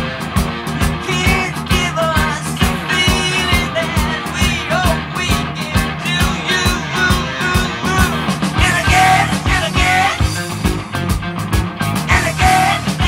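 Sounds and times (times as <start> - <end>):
steady drum beat: 0.0 - 13.0
upbeat rock music: 0.0 - 13.0.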